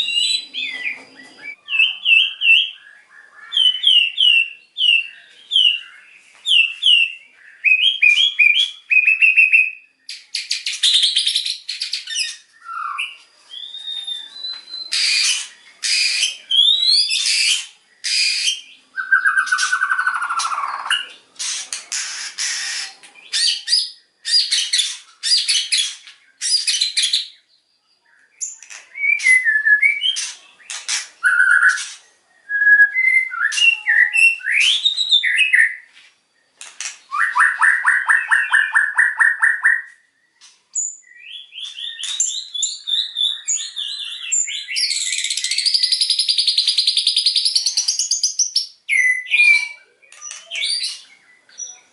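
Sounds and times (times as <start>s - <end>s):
songbird singing varied song: 0.0s - 21.4s, 22.0s - 51.9s.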